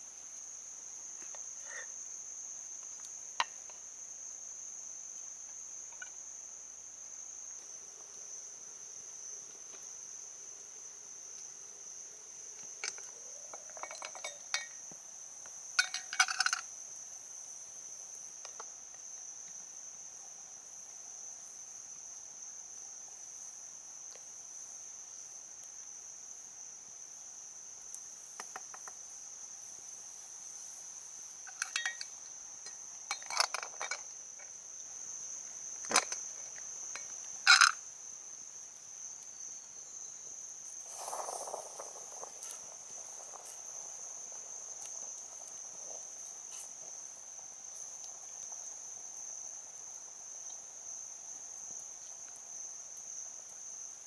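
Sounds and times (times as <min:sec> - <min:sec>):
crickets droning: 0:00.0 - 0:54.0.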